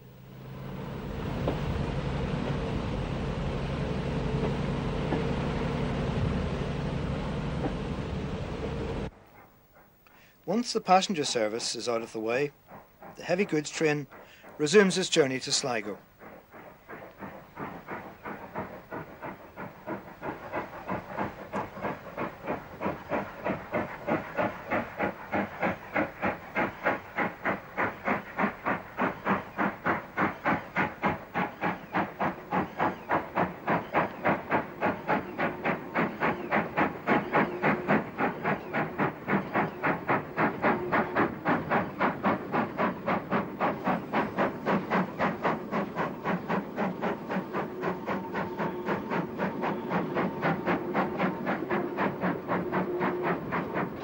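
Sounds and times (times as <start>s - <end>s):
steam locomotive exhaust beats: 0.0s - 54.0s
steam hiss: 9.8s - 54.0s.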